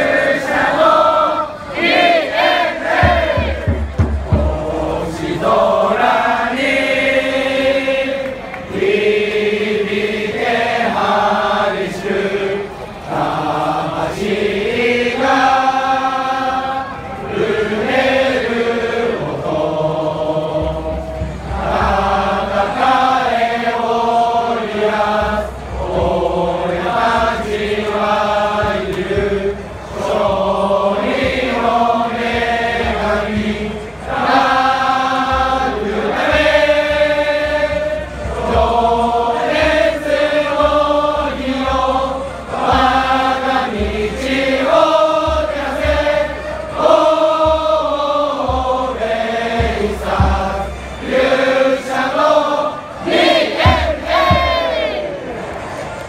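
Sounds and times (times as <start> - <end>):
crowd singing a cheer song: 0.0 - 56.0.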